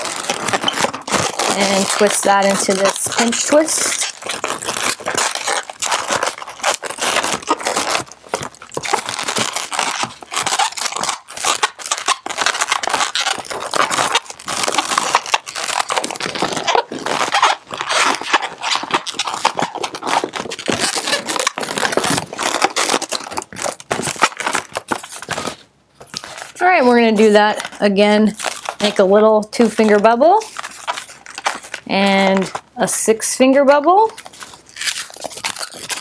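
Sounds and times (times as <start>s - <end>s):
balloon squeaking and rubbing: 0.0s - 36.0s.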